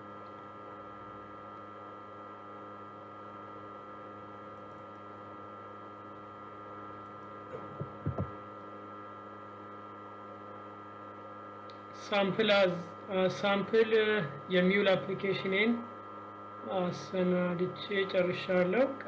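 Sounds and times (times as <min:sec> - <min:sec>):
electrical hum with whining tones: 0:00.0 - 0:19.0.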